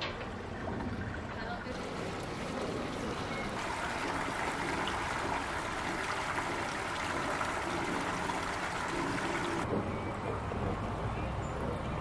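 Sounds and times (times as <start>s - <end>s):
water rushing through lock gates: 0.0s - 11.0s.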